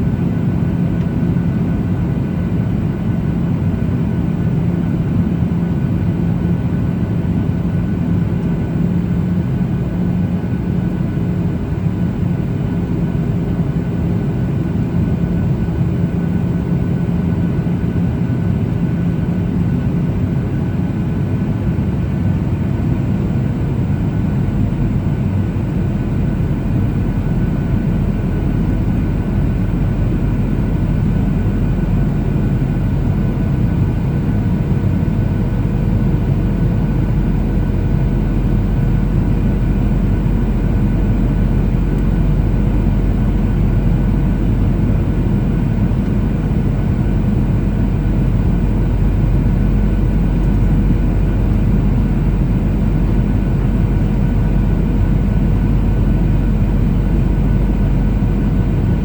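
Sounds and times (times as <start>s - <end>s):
deep engine drone: 0.0s - 59.0s
jet engine rumble: 0.0s - 59.0s.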